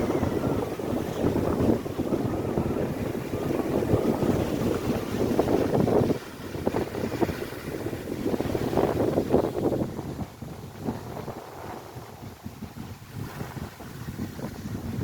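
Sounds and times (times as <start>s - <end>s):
waves crashing on shore: 0.0s - 15.0s
wind buffeting microphone: 0.0s - 15.0s.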